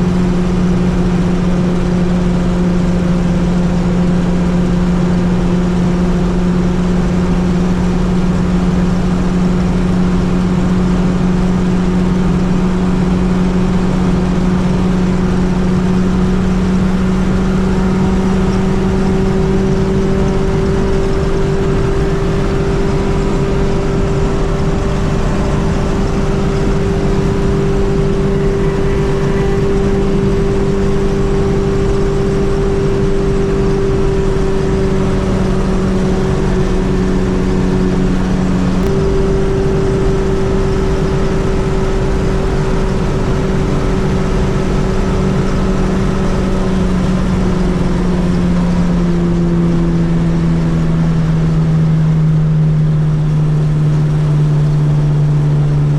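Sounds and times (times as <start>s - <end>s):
car engine droning: 0.0s - 55.9s.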